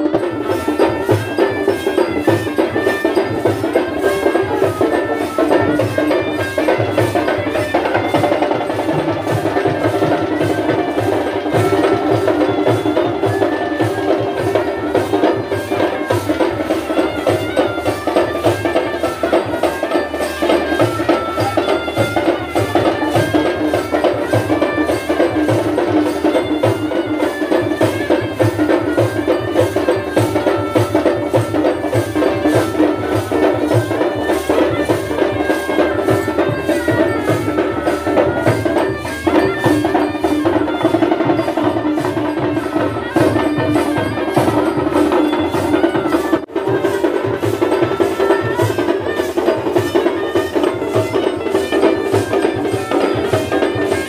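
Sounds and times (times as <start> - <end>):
drum beat: 0.0 - 54.0
small hand cymbals: 0.0 - 54.0.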